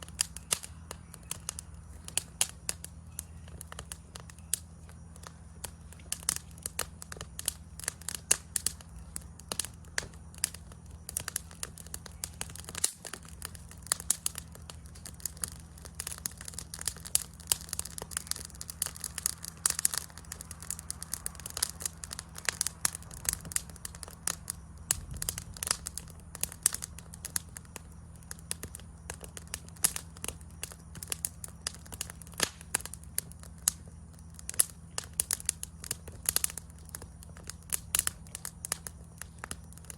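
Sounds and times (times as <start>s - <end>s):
campfire crackling and popping: 0.0s - 39.9s
steady low rumble: 0.0s - 39.9s.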